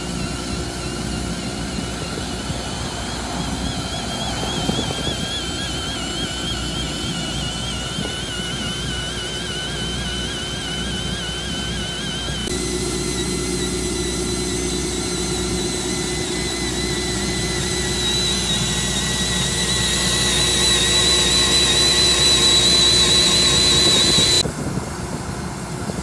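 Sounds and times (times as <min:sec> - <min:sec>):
compressed air hissing and whistling: 0:00.0 - 0:24.5
machine low hum: 0:00.0 - 0:24.5.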